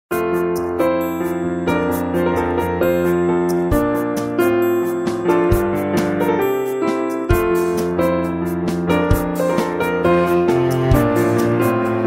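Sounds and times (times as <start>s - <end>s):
piano-led instrumental music: 0.1s - 12.0s.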